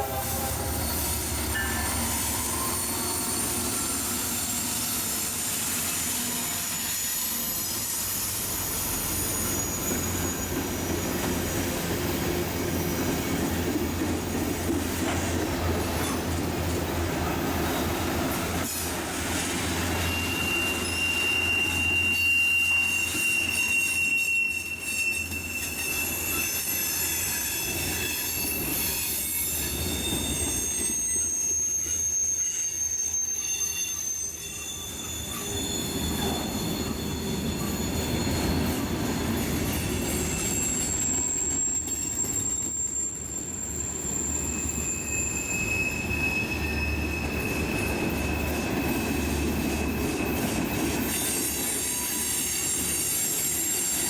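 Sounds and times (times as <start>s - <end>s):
low rumble of railroad cars: 0.0s - 54.0s
train wheels squealing on rails: 0.0s - 54.0s.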